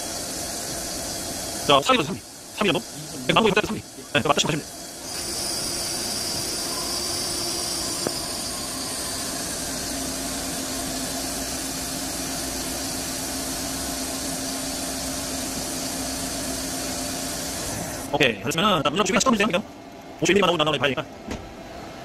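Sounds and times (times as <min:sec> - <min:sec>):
coolant spray hissing: 0:00.0 - 0:18.4
lathe spindle hum: 0:00.0 - 0:22.0.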